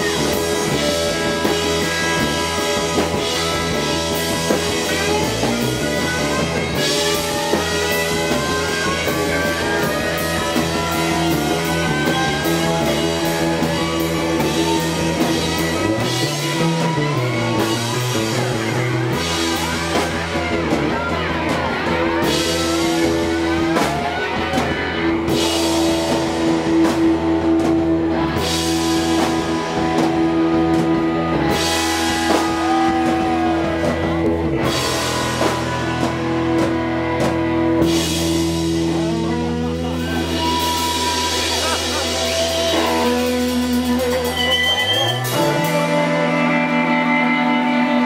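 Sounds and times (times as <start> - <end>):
bending electric guitar notes: 0.0 - 48.0
live rock band playing: 0.0 - 48.0.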